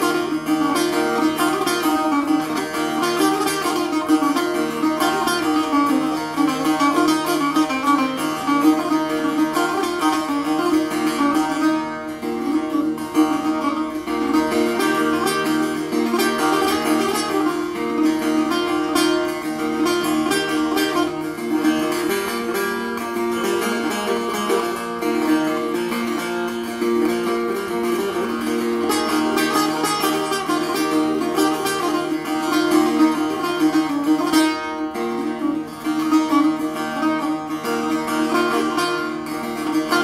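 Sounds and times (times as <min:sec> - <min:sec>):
plucked long-necked lute: 0:00.0 - 0:40.0.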